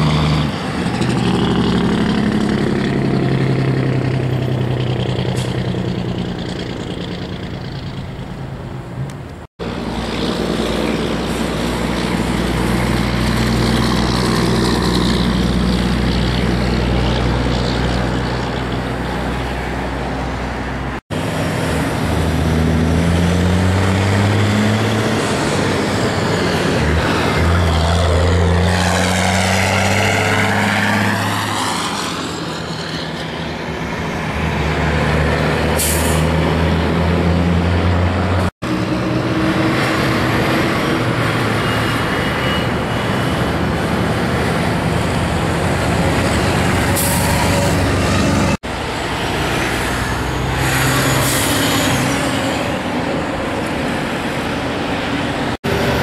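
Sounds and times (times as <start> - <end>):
diesel trucks driving past: 0.0 - 56.0
tyre and drivetrain whine: 0.0 - 56.0.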